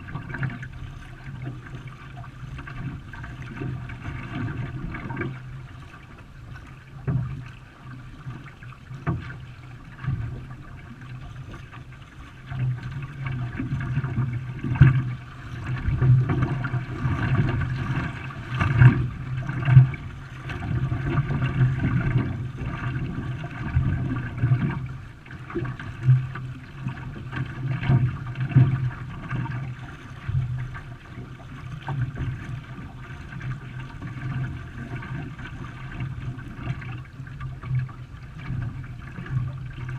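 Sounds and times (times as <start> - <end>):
water splashing against a canoe: 0.0 - 39.9.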